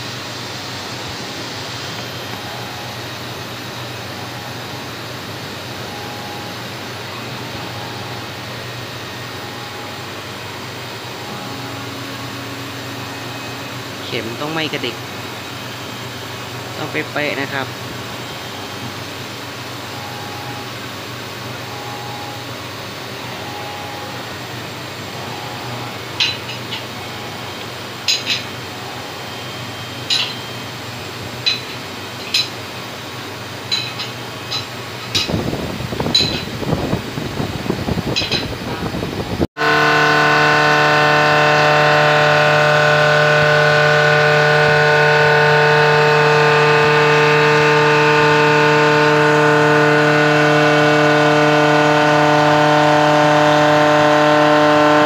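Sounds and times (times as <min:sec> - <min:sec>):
milling machine spindle whine: 0:00.0 - 0:31.7, 0:35.5 - 0:55.0
machine-shop hum: 0:00.0 - 0:55.0.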